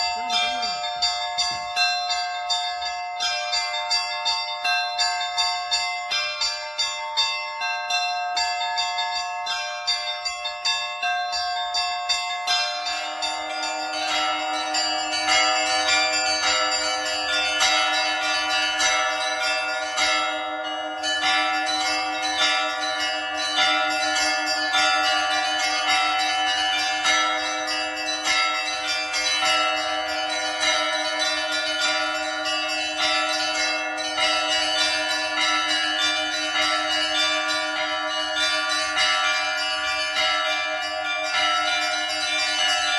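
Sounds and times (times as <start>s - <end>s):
large low-pitched bell: 0.0s - 42.9s
small church bells pealing: 0.0s - 42.9s.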